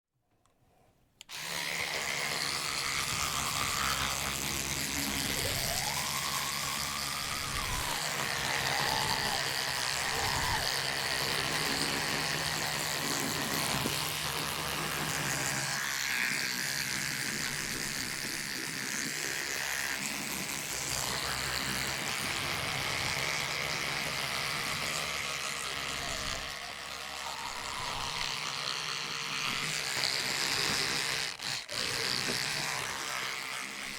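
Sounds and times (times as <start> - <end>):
electric toothbrush buzzing: 1.2 - 33.9.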